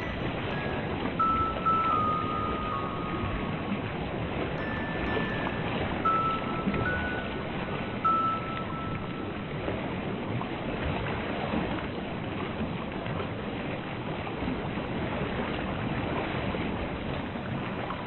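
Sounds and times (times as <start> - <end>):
ocean water rushing: 0.0 - 18.0.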